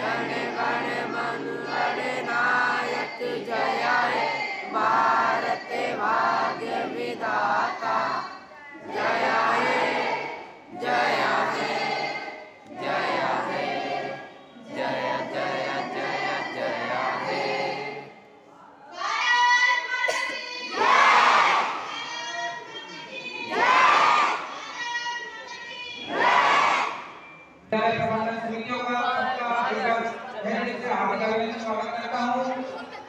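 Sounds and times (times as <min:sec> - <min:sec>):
children and adults singing: 0:00.0 - 0:18.3, 0:18.9 - 0:27.2.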